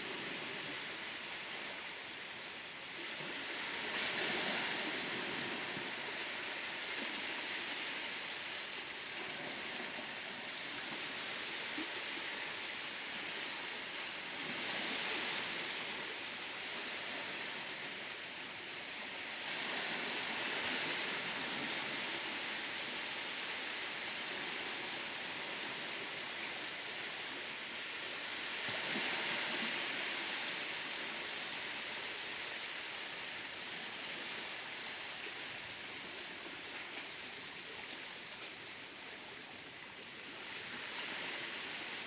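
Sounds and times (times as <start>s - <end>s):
ocean waves breaking: 2.9s - 42.0s.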